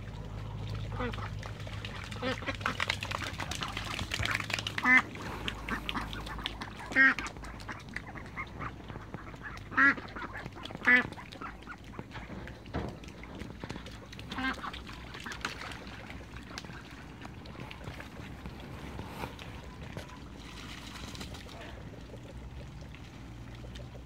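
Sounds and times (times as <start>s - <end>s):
ducks quacking: 0.8s - 23.9s.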